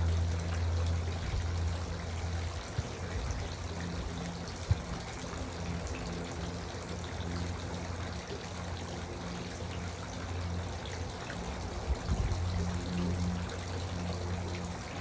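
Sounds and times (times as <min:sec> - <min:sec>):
fountain water trickling and splashing: 0:00.0 - 0:15.0.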